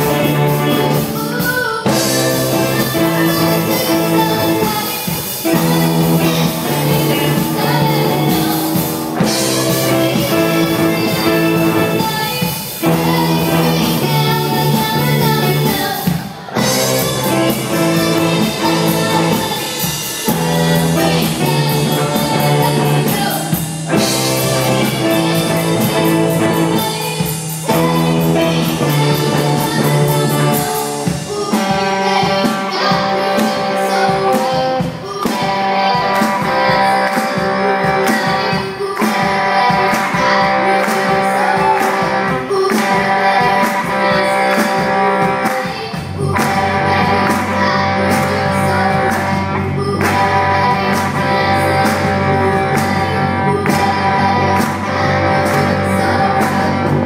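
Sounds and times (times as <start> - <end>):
live pop-rock band playing: 0.0 - 57.0
woman singing: 0.0 - 57.0.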